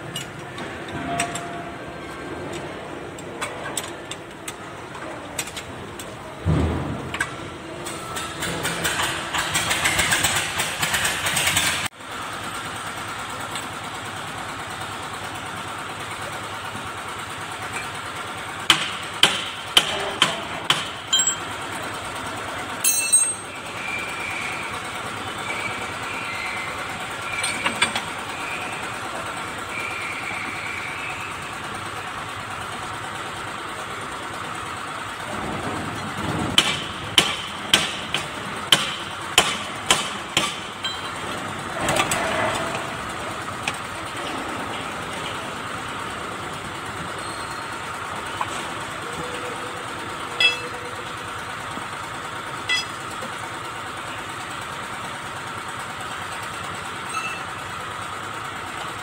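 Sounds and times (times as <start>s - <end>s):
steady mechanical drone: 0.0s - 59.0s.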